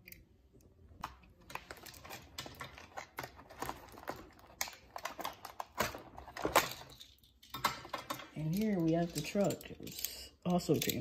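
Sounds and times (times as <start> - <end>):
plastic packaging clicks and crinkles: 1.0 - 10.1.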